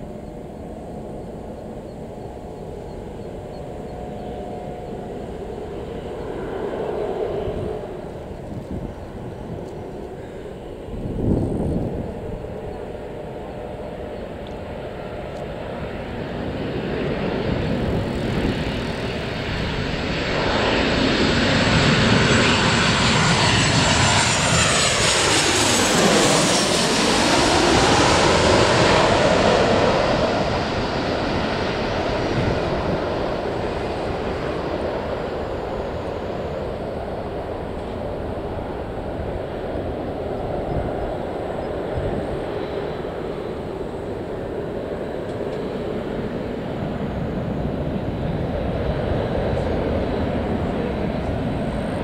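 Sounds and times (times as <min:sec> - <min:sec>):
airliner engine roar overhead: 0:00.0 - 0:52.0.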